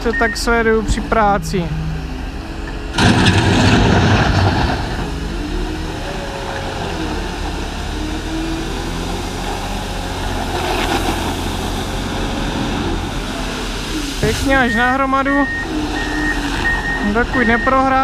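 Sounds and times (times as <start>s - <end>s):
wheel loader diesel engine revving: 0.0s - 18.0s.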